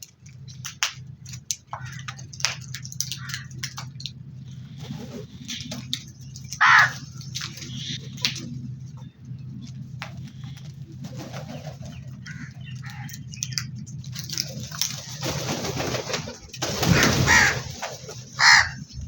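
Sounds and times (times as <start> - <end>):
birds calling: 0.0 - 19.0
steady low drone: 0.0 - 19.0.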